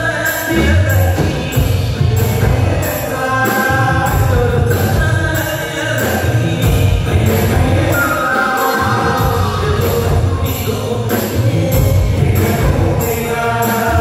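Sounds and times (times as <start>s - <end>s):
group of singers singing: 0.0s - 14.0s
keyboard: 0.0s - 14.0s
loud drum beats: 0.0s - 14.0s.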